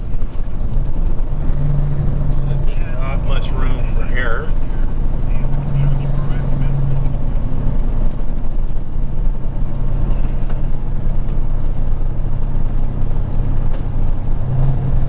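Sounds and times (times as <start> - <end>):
road noise: 0.0 - 15.0
truck diesel engine droning: 0.0 - 15.0.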